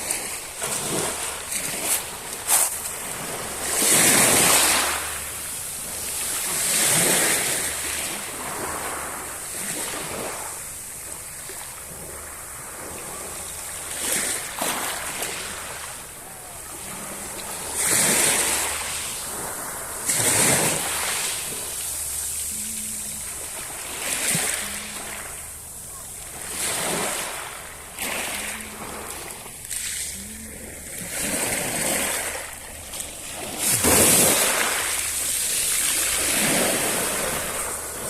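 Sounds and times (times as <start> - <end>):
sea waves breaking: 0.0 - 38.0.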